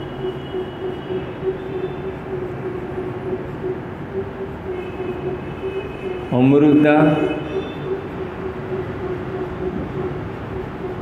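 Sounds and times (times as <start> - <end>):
constant droning tone: 0.0 - 11.0
mechanical hum and hiss: 0.0 - 11.0.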